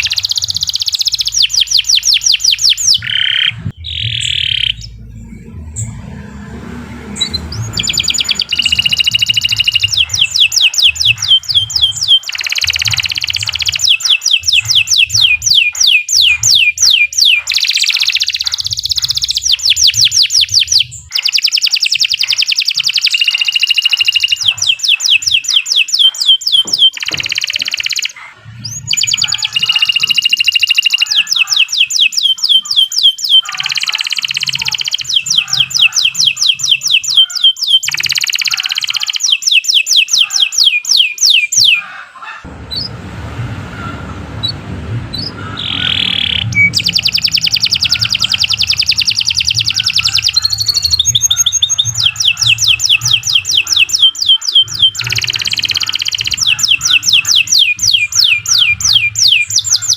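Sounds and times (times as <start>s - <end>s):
canary singing: 0.0s - 43.0s, 43.6s - 59.9s.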